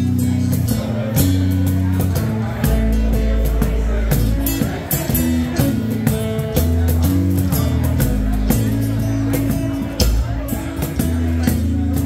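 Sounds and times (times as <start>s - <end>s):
electric bass low notes: 0.0s - 12.0s
strummed acoustic guitar: 0.0s - 12.0s.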